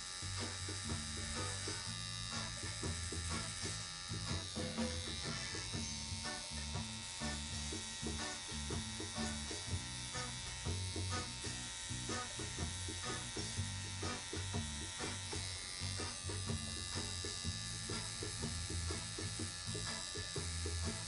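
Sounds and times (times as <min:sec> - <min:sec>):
tattoo machine buzzing: 0:00.0 - 0:21.0.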